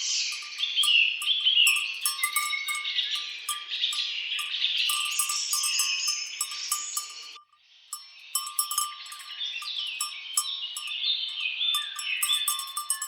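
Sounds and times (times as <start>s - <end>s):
birds singing and chirping: 0.0s - 13.0s
small bells tinkling: 0.0s - 13.0s.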